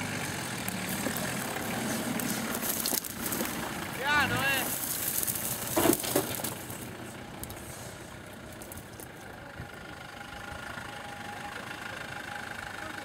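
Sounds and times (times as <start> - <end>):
off-road engines running at low revs: 0.0 - 13.0.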